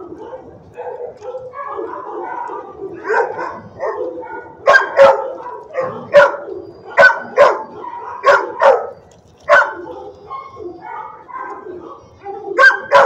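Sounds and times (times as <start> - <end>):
dog barking: 0.0 - 13.0.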